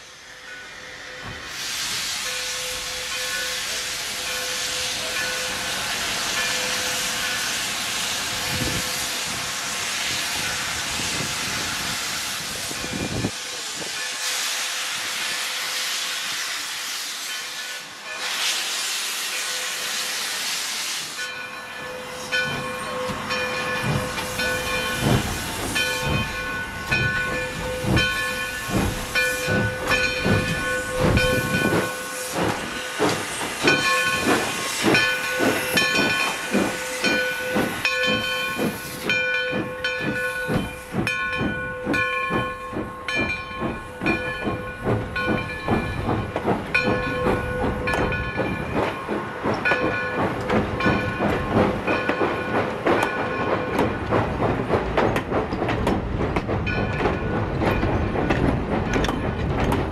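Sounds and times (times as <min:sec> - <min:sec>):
steam hiss: 0:00.0 - 0:54.7
steam locomotive exhaust chuffs: 0:00.0 - 0:59.9.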